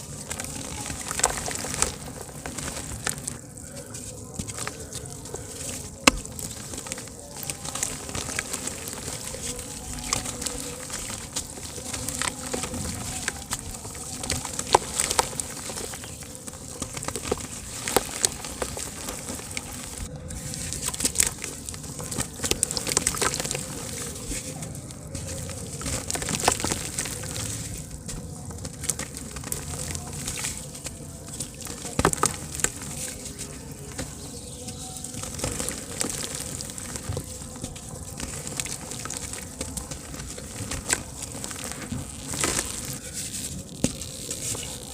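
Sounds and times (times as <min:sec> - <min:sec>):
dirt crumbling in water fizzing: 0:00.0 - 0:44.9.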